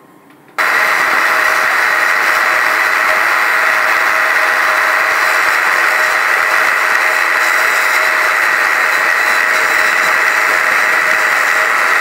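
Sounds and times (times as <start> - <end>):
angle grinder cutting steel: 0.6 - 12.0.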